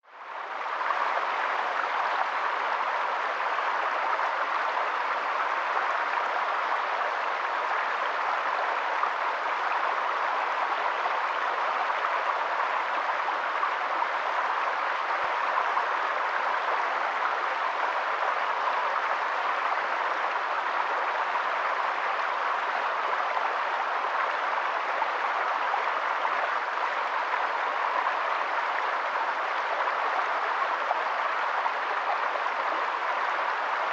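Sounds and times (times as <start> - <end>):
rushing water: 0.0 - 33.9.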